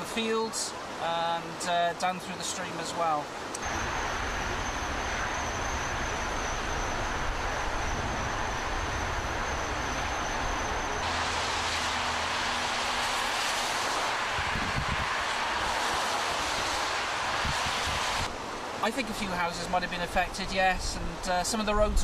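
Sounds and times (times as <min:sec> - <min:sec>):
floodwater rushing down stream: 0:00.0 - 0:22.0.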